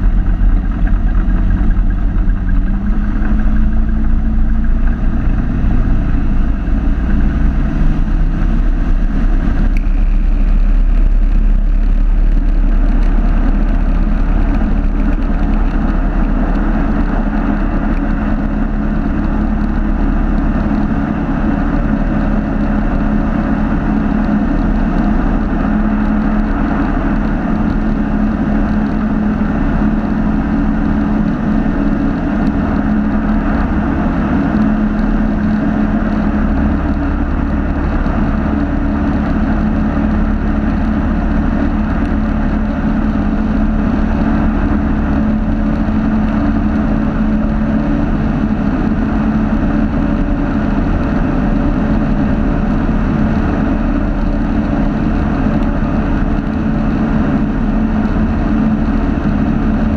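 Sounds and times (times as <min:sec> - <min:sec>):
light aircraft engine and propeller: 0:00.0 - 0:59.9.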